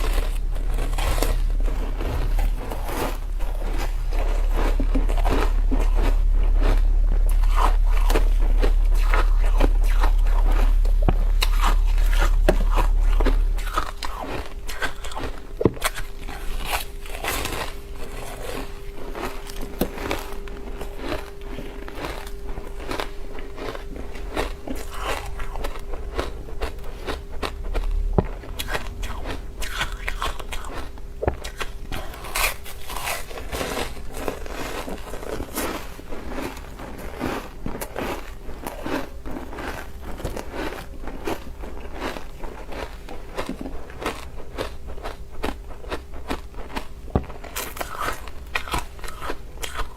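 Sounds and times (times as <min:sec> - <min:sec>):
ice being chewed: 0:00.0 - 0:49.9
loud low hum: 0:00.0 - 0:49.9.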